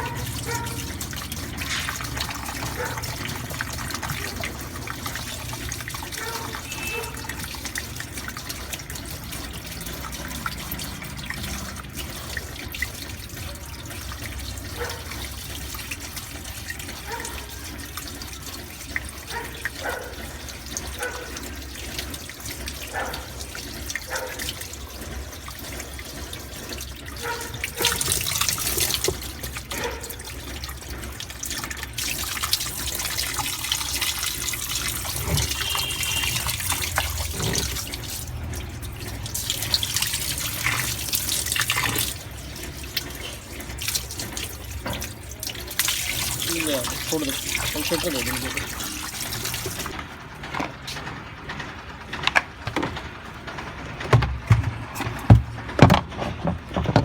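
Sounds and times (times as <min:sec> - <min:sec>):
water running and splashing: 0:00.0 - 0:57.0.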